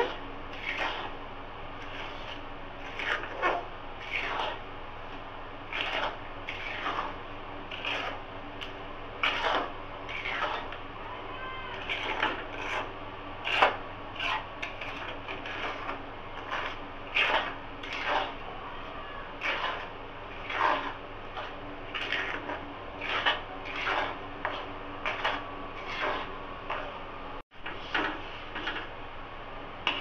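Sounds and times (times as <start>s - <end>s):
metal spatula scraping pan: 0.0s - 1.2s, 1.8s - 4.7s, 5.7s - 10.8s, 11.6s - 27.0s, 27.6s - 28.9s.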